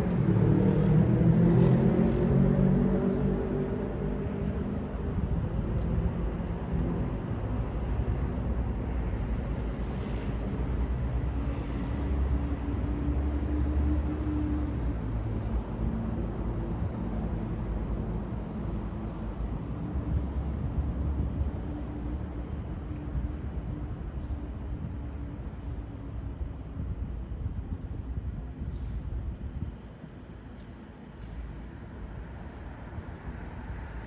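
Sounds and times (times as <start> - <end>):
engine hum of passing vehicles: 0.0 - 34.0
low rumble of traffic: 0.0 - 34.0.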